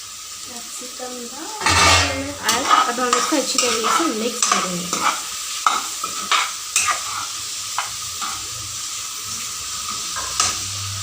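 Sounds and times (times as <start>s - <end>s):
vegetables sizzling in a frying pan: 0.0s - 11.0s
spatula scraping a pan: 1.6s - 10.8s.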